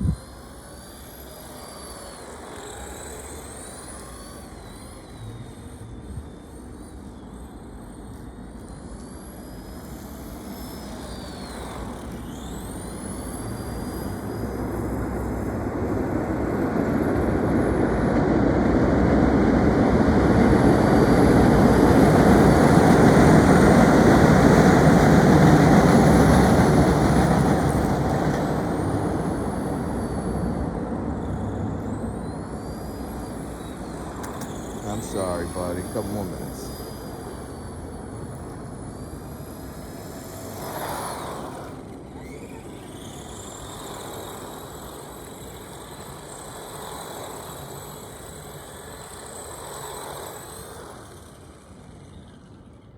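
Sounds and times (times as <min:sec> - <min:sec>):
rc car motor whining: 0:00.0 - 0:52.9.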